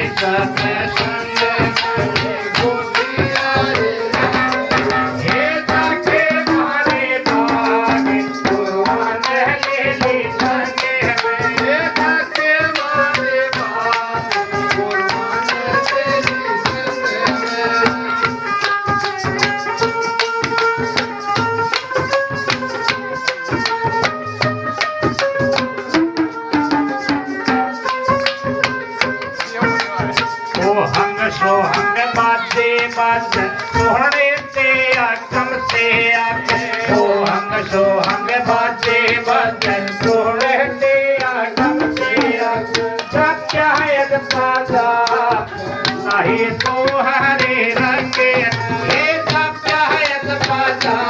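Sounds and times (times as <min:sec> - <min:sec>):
devotional instrumental melody: 0:00.0 - 0:51.0
hand drum strokes: 0:00.0 - 0:51.0.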